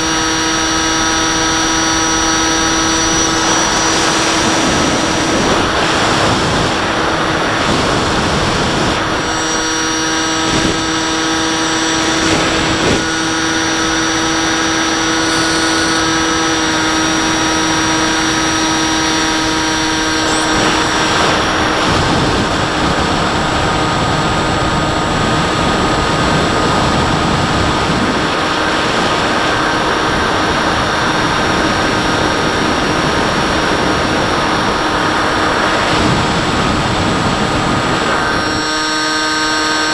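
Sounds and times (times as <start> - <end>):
electric motor whine: 0.0 - 39.9
rushing airflow: 0.0 - 39.9.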